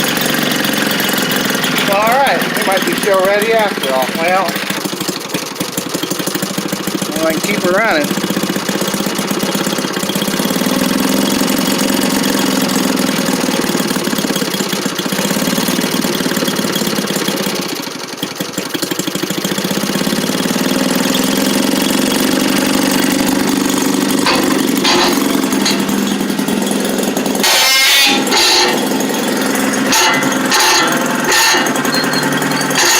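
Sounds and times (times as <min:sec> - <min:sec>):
two-stroke engine idling: 0:00.0 - 0:32.9.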